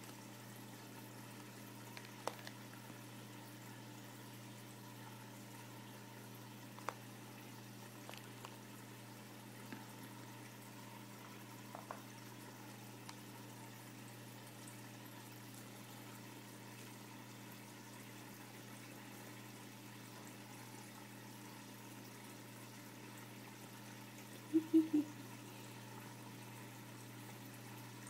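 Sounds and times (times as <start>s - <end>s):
faint trickling water: 0.0s - 28.0s
tank filter humming: 0.0s - 28.0s.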